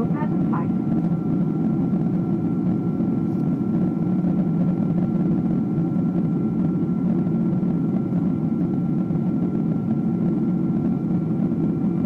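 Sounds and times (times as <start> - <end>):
faint steady whine: 0.0 - 12.0
jet engine and airflow rush: 0.0 - 12.0.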